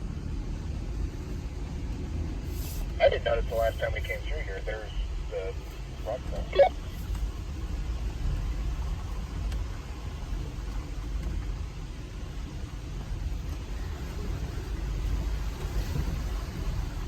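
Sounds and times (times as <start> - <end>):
engine rumbling at low revs: 0.0 - 17.0.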